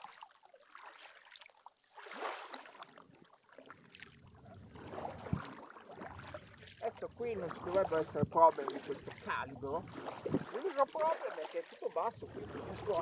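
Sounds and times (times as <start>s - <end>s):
paddle stroking through water: 0.0s - 13.0s
water dripping from paddle blades: 2.5s - 13.0s.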